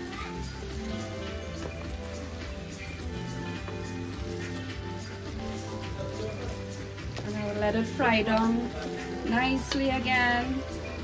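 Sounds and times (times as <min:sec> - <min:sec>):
background music with held notes: 0:00.0 - 0:11.0
chicken frying in a pan: 0:00.0 - 0:11.0.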